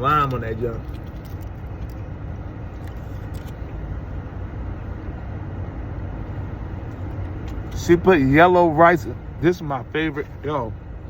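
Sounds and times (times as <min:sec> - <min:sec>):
background hum: 0:00.0 - 0:11.0
low engine rumble: 0:00.0 - 0:11.0.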